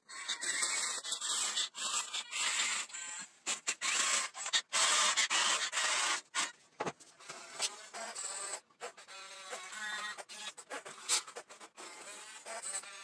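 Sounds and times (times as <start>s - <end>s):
small electric motors whirring: 0.1s - 6.6s, 7.2s - 13.0s.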